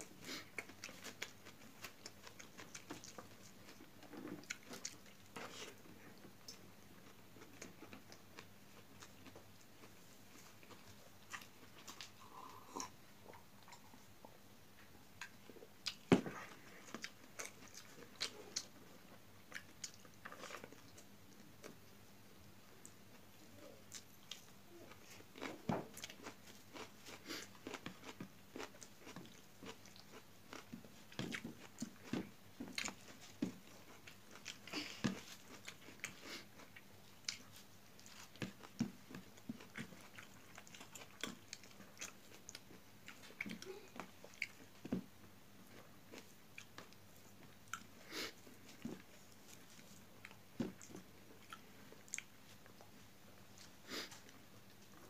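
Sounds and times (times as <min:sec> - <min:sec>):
person chewing crunchy vegetables: 0:00.0 - 0:14.4, 0:15.2 - 0:21.8, 0:23.9 - 0:55.0.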